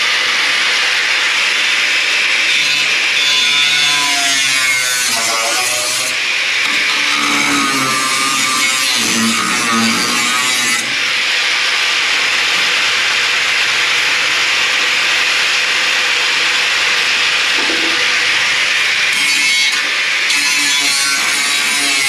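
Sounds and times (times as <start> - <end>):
power tool cutting sheet steel: 0.0 - 22.0.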